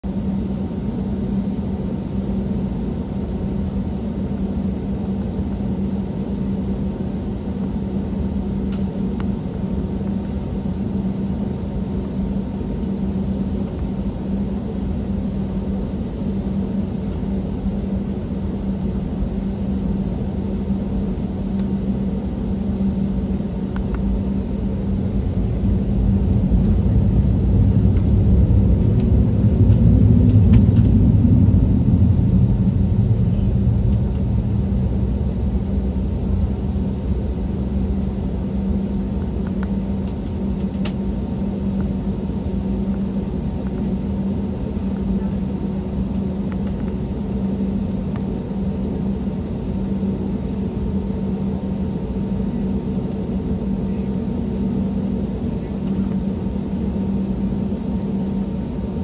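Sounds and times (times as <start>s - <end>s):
jet engines humming in cabin: 0.0s - 59.0s.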